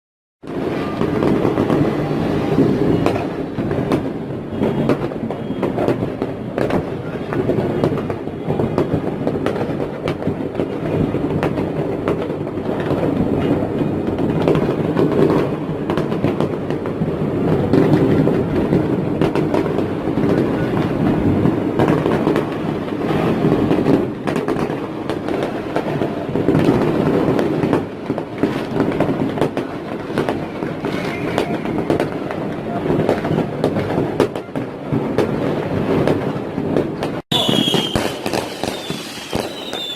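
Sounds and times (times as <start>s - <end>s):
fireworks bangs and crackles: 0.4s - 39.9s.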